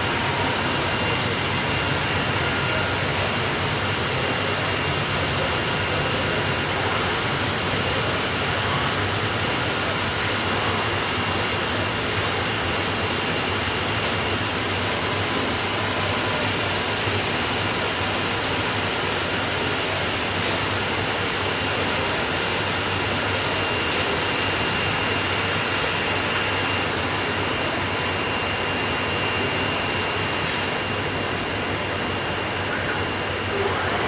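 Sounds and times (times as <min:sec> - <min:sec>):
router hum and hiss: 0:00.0 - 0:34.0.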